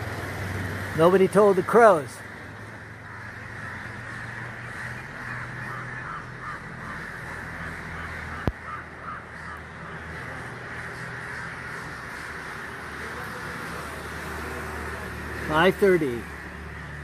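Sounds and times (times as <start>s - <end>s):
crows cawing: 0.7s - 17.0s.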